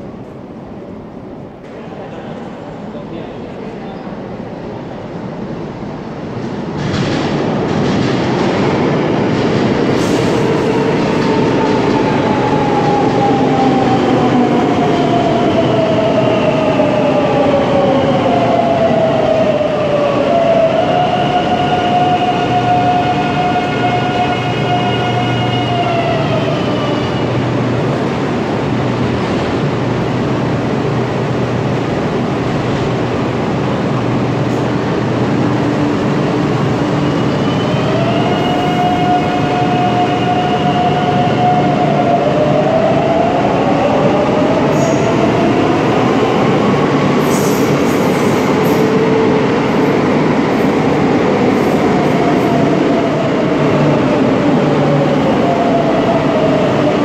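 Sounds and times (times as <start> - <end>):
standing train low hum: 0.0 - 57.0
train wheels rumbling: 0.0 - 57.0.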